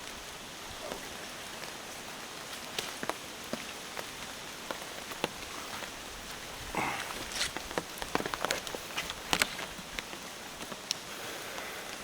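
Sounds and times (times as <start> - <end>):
raindrops ticking: 0.0 - 12.0
steady rain hiss: 0.0 - 12.0.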